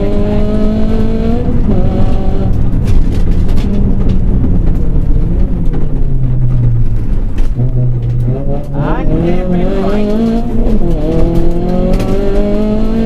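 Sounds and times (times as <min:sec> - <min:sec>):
rally car engine from inside: 0:00.0 - 0:13.0.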